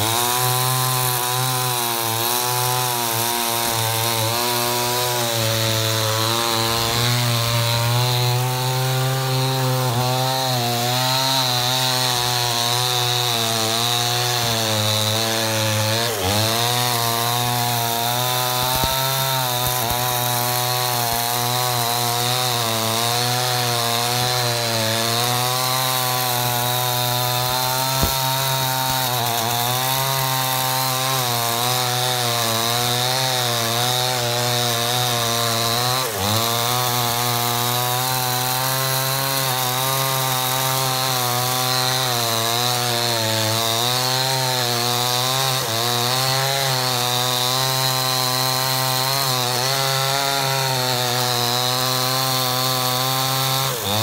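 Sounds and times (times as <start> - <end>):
chainsaw cutting through wood: 0.0 - 54.0.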